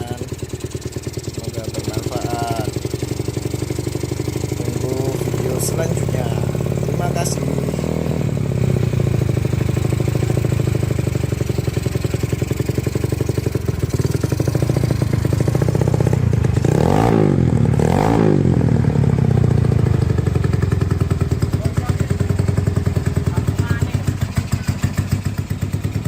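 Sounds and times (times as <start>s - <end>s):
scooter engine idling: 0.0s - 26.0s.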